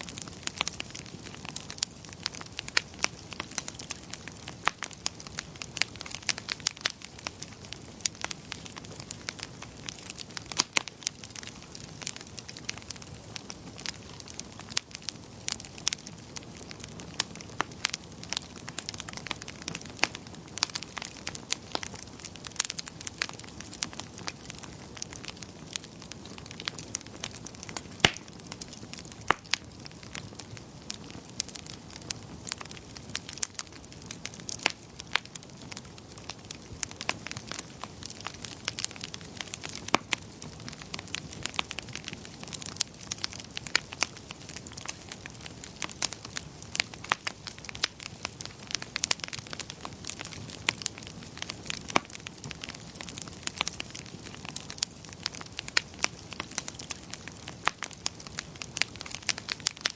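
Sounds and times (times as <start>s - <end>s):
low hiss of burning: 0.0s - 59.9s
wood fire crackling and popping: 0.0s - 59.9s.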